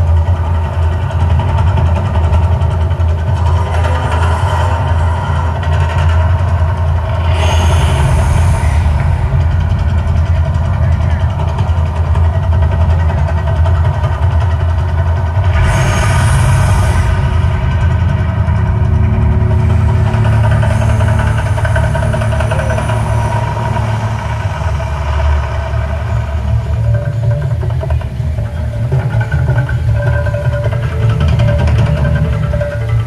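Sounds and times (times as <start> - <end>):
deep low rumble: 0.0 - 33.0.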